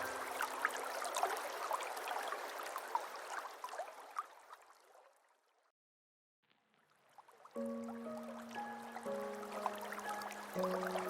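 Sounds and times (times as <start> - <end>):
small waterfall trickling: 0.0 - 5.4, 6.5 - 11.0.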